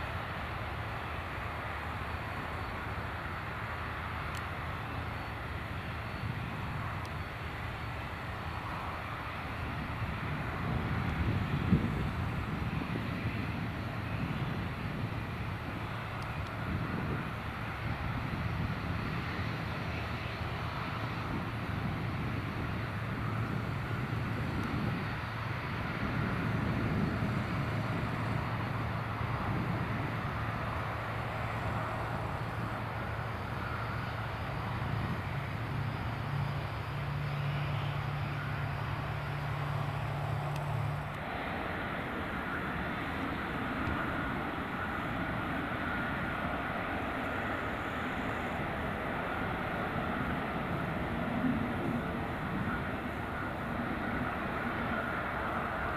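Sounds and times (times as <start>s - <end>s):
jet engines droning: 0.0s - 55.9s.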